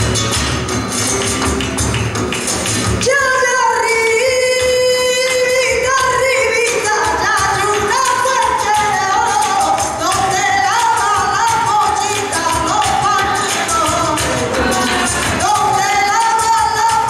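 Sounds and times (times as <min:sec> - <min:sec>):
cajon percussive strokes: 0:00.0 - 0:17.0
flamenco guitar: 0:00.0 - 0:17.0
hand-clapping: 0:00.2 - 0:03.5, 0:04.5 - 0:17.0.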